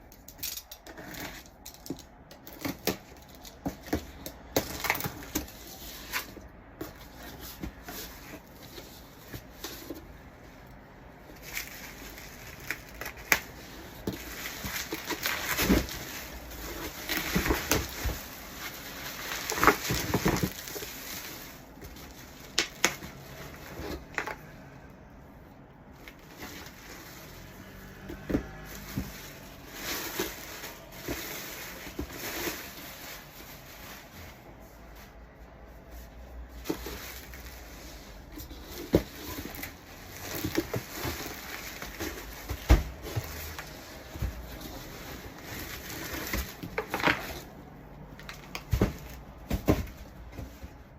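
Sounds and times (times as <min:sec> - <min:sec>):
packaging rustling: 0:00.6 - 0:24.9, 0:25.8 - 0:35.2, 0:35.8 - 0:50.9.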